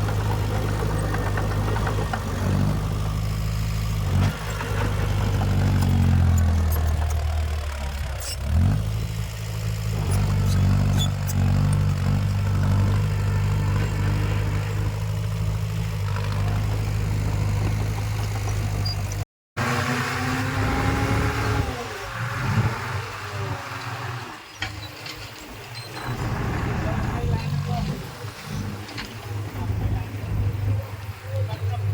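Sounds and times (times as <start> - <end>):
diesel engine of heavy machine: 0.0 - 31.9.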